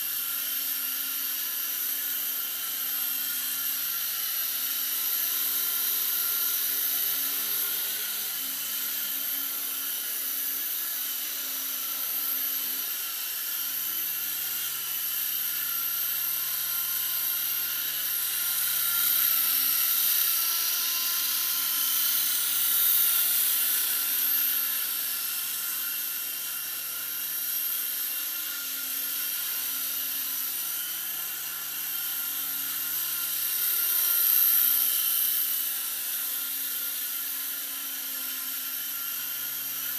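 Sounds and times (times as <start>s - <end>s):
toy helicopter motor whine: 0.0s - 39.9s.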